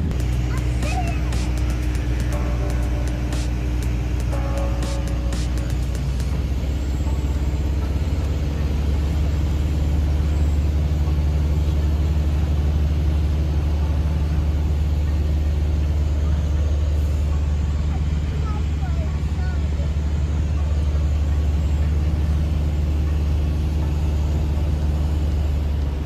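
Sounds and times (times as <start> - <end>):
light aircraft engine droning: 0.0 - 26.0.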